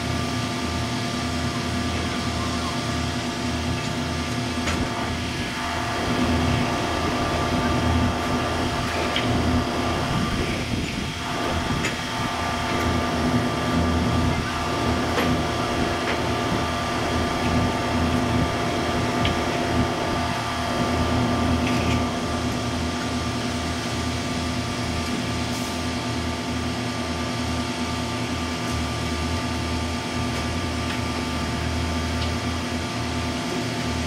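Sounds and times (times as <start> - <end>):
diesel engines idling: 0.0 - 34.0.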